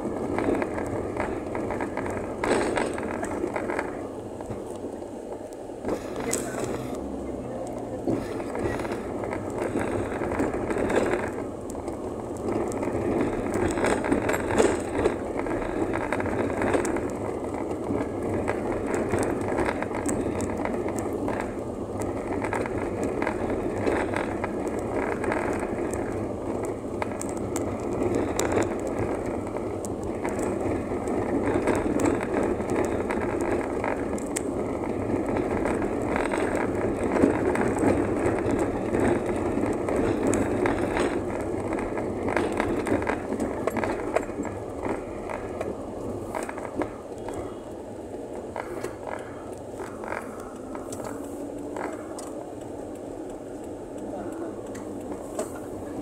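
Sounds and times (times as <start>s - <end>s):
tyre rumble and rattling: 0.0s - 56.0s.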